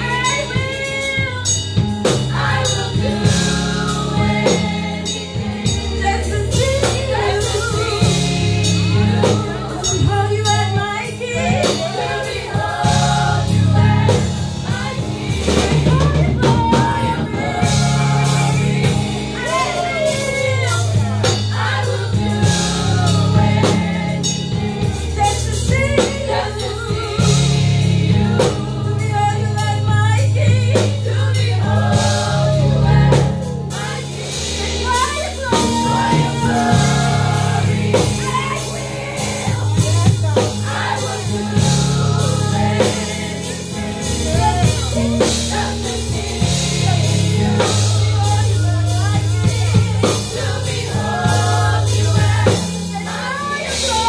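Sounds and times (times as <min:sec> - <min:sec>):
drum kit: 0:00.0 - 0:54.0
low bass notes: 0:00.0 - 0:54.0
women singing gospel together: 0:00.0 - 0:54.0.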